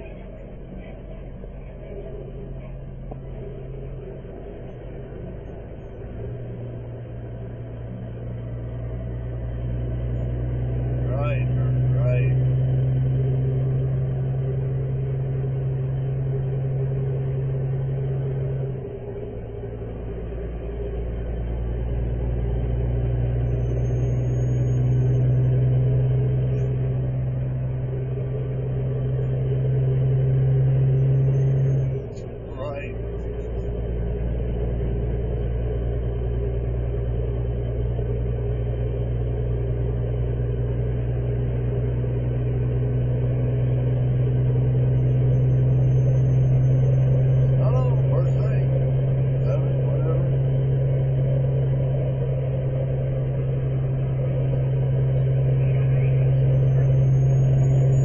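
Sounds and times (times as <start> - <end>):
road noise: 0.0 - 58.0
vehicle engine drone: 0.0 - 58.0.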